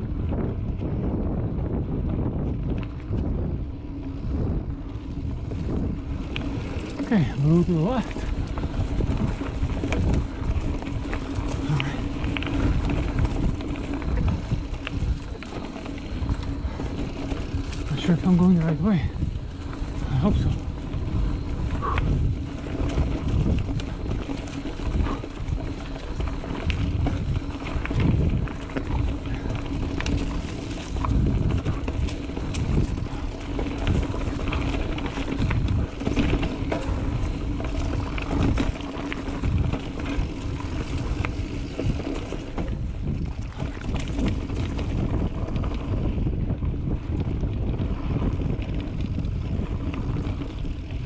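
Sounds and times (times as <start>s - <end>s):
bike rattling clicks and knocks: 0.0s - 51.0s
wind buffeting microphone: 0.0s - 51.0s
tyres rumbling on dirt: 1.4s - 51.0s.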